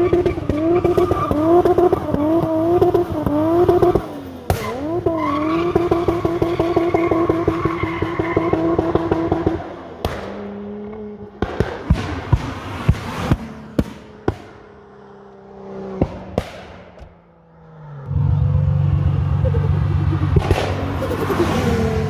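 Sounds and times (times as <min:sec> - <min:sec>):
turbocharged engine revving: 0:00.0 - 0:22.0.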